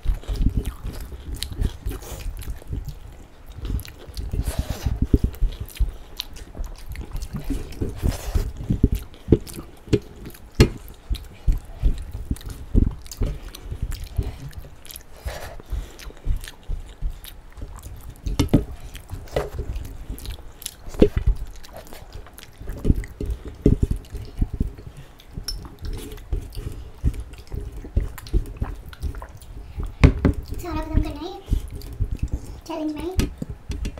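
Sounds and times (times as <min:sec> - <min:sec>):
wet chewing and lip-smacking: 0:00.0 - 0:33.9.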